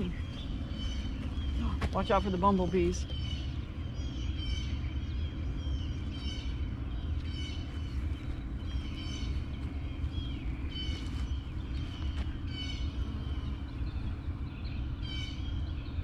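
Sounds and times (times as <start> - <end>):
bird harsh calls: 0.0 - 16.0
steady low hum: 0.0 - 16.0.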